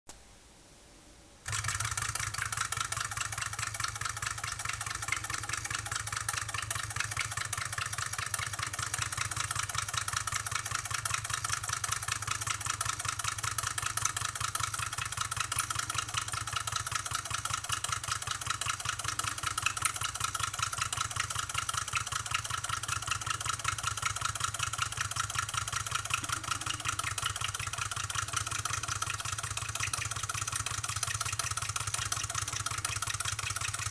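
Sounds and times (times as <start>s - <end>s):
engine mechanical clatter: 1.5s - 33.9s.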